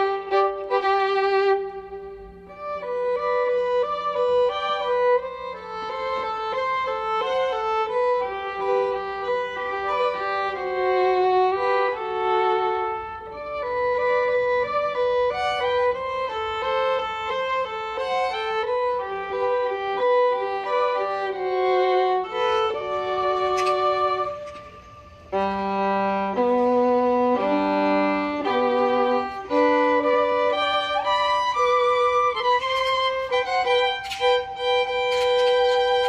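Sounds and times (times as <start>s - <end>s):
violin melody: 0.0s - 36.0s.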